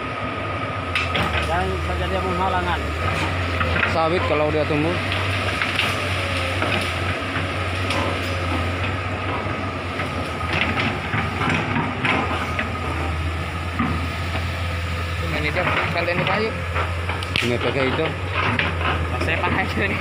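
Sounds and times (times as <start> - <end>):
excavator diesel engine: 0.0 - 20.0
branches cracking: 2.8 - 20.0.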